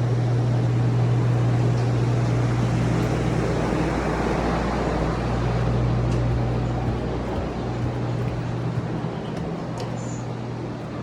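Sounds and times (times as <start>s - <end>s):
drying fans rushing air: 0.0s - 11.0s
low motor hum: 0.0s - 11.0s.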